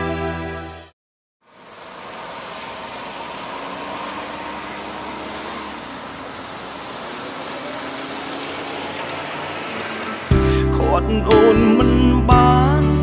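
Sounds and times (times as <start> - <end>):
street traffic hum: 1.4 - 12.8.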